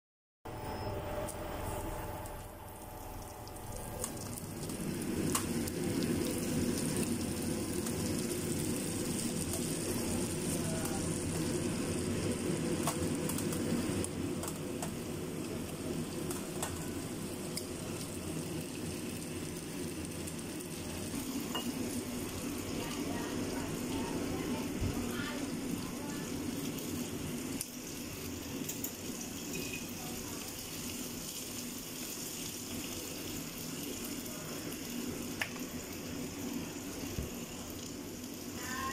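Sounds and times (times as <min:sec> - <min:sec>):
food sizzling in hot oil: 0:01.5 - 0:38.9.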